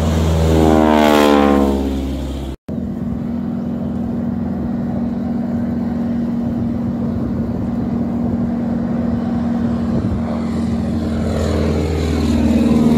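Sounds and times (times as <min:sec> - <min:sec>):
biplane engine droning: 0:00.0 - 0:12.9.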